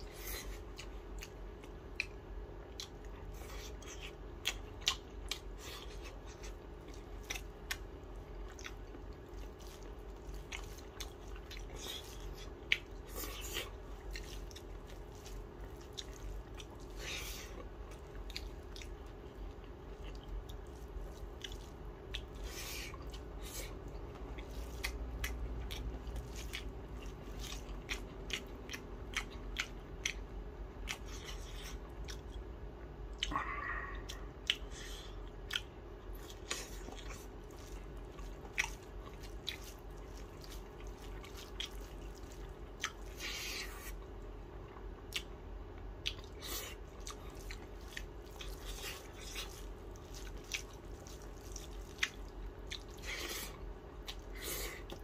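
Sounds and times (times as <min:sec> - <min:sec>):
person chewing with wet smacks: 0:00.0 - 0:55.0
steady low hum: 0:00.0 - 0:55.0.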